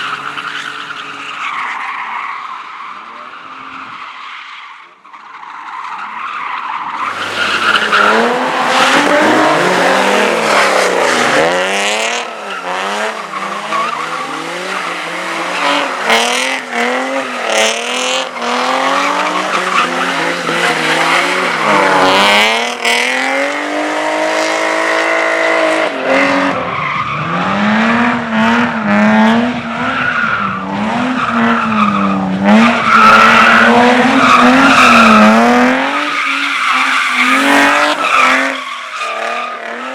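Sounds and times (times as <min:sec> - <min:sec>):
tyres squealing and skidding: 0:00.0 - 0:25.0, 0:26.4 - 0:27.4, 0:29.7 - 0:39.9
car engine revving: 0:07.0 - 0:30.0, 0:30.6 - 0:39.9.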